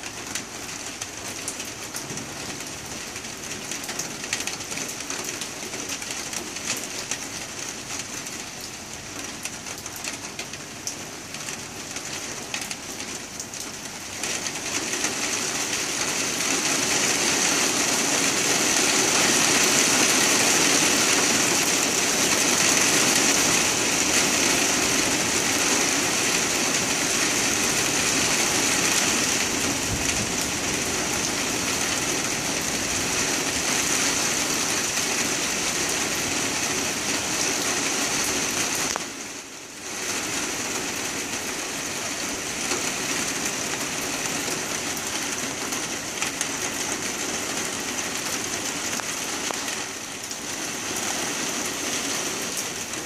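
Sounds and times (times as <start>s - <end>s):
heavy rain on wooden deck: 0.0s - 53.0s.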